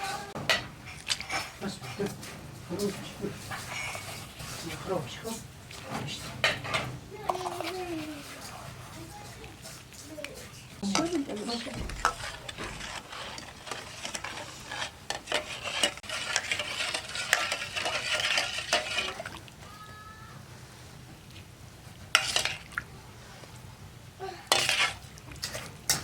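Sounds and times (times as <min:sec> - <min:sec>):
spoon scraping in cooking pot: 0:00.0 - 0:19.7, 0:20.9 - 0:23.7, 0:24.5 - 0:26.0.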